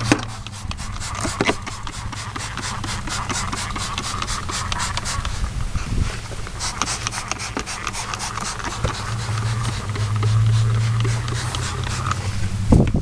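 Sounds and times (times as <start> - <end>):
scratchy scrubbing strokes on carpet: 0.0 - 12.5
steady low hum: 0.0 - 13.0.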